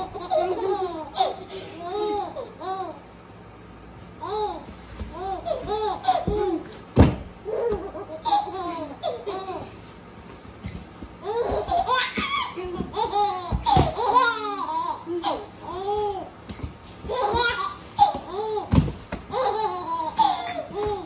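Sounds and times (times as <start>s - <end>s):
baby laughing: 0.0s - 3.0s, 4.2s - 6.8s, 7.4s - 9.8s, 11.2s - 16.3s, 17.0s - 21.0s.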